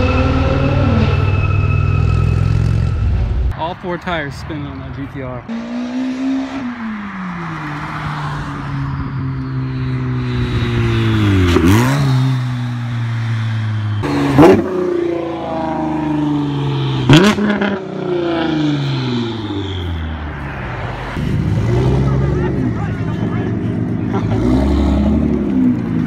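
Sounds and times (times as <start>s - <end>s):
cars driving past: 0.0s - 26.0s.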